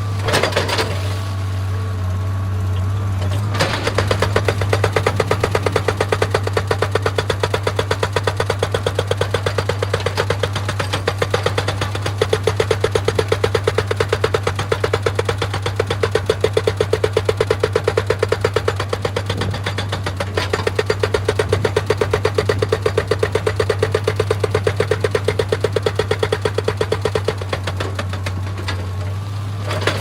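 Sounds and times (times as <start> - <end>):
hydraulic breaker hammering stone: 3.3 - 28.8.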